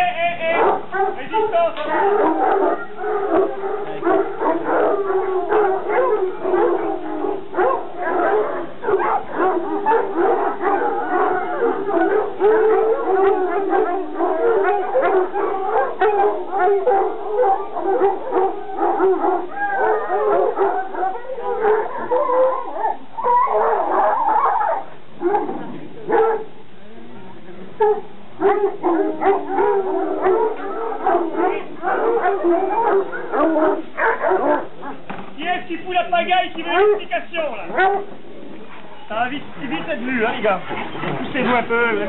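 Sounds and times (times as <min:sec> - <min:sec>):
hounds baying and howling: 0:00.5 - 0:26.7, 0:27.8 - 0:42.0.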